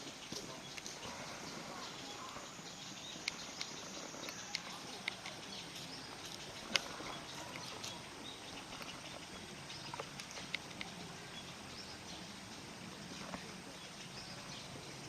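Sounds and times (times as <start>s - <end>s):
outdoor background hubbub: 0.0s - 15.0s.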